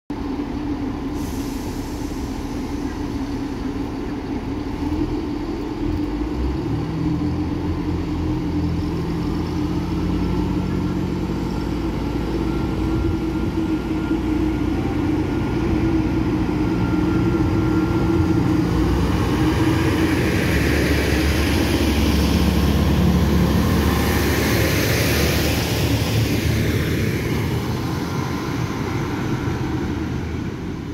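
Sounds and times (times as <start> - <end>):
train diesel engines: 0.1 - 30.9
rushing noise: 0.2 - 30.9.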